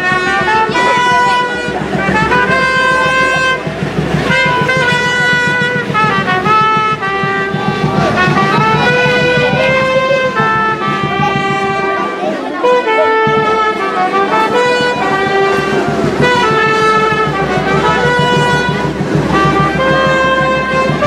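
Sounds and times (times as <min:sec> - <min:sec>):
melody of long held notes: 0:00.0 - 0:21.0
steady pulsing beat: 0:00.0 - 0:21.0.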